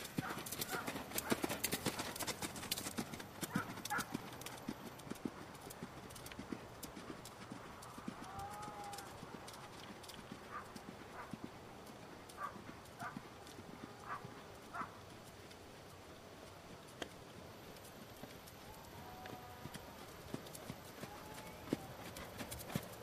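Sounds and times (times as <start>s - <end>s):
horse hoofbeats on soft dirt: 0.0s - 23.0s.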